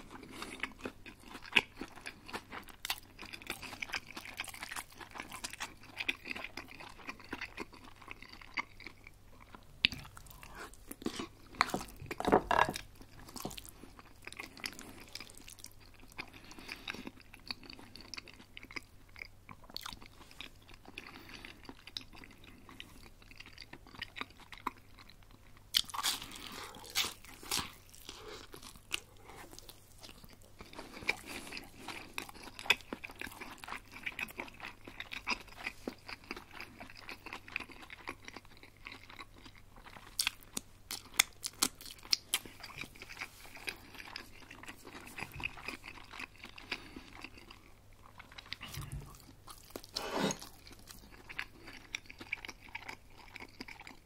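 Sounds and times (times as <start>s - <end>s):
chewing with wet mouth clicks: 0.0s - 12.2s, 12.8s - 54.0s.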